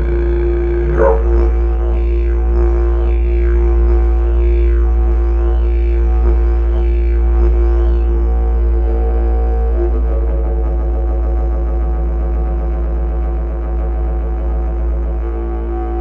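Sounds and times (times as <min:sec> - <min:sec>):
throat singing drone: 0:00.0 - 0:16.0.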